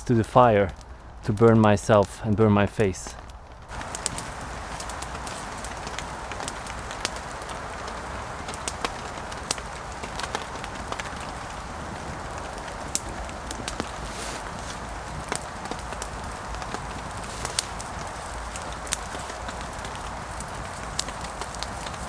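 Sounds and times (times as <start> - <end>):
campfire crackling and popping: 0.0 - 22.0
fire hissing: 0.0 - 22.0.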